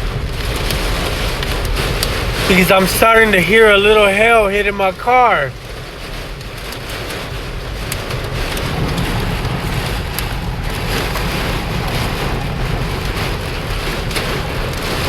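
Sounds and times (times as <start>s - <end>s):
hail ticking on a car: 0.0s - 15.0s
heavy rain on a car: 0.0s - 15.0s
road and engine rumble: 0.0s - 15.0s.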